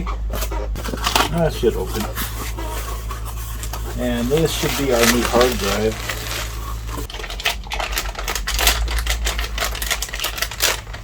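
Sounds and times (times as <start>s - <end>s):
plastic packaging clicking and crinkling: 0.8s - 2.5s, 3.5s - 11.0s.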